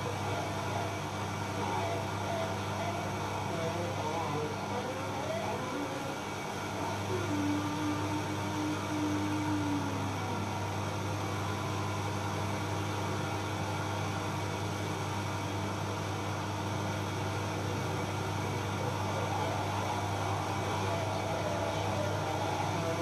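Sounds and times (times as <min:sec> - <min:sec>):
electronic noise drone: 0:00.0 - 0:23.0.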